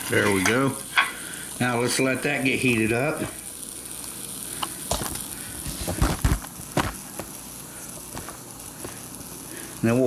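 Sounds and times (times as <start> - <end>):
boiler sizzling hiss: 0.0 - 10.0.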